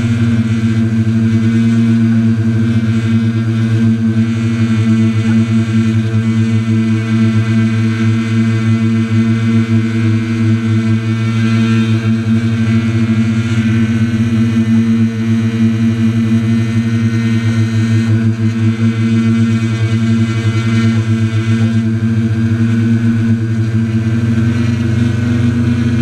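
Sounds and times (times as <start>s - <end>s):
quadcopter buzzing hum: 0.0s - 26.0s.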